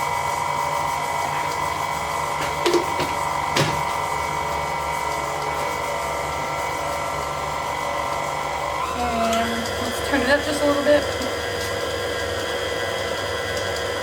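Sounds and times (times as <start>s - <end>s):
stand mixer motor whine: 0.0s - 14.0s.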